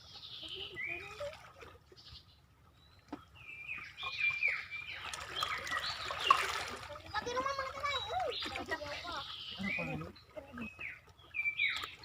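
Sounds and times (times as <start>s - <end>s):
birds chirping and whistling: 2.0s - 12.0s.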